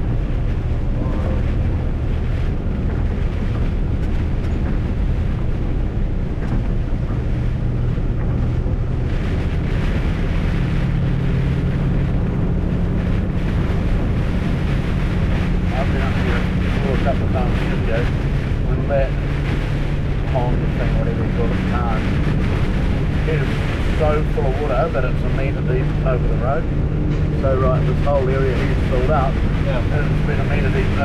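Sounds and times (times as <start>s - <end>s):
diesel engine running: 0.0s - 31.0s
wind and rain hiss on microphone: 0.0s - 31.0s.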